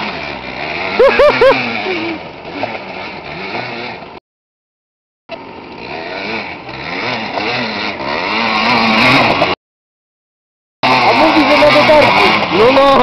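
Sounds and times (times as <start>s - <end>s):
atv engine revving: 0.0s - 4.2s, 5.3s - 9.6s, 10.8s - 13.0s.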